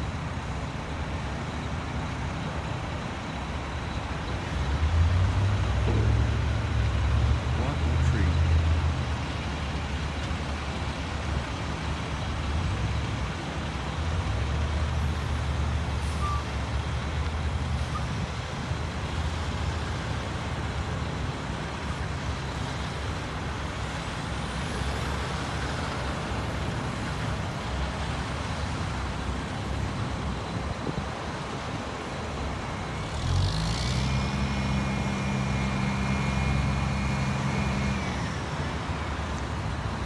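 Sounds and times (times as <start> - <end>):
road traffic passing: 0.0 - 40.0
trucks driving by: 0.0 - 40.0.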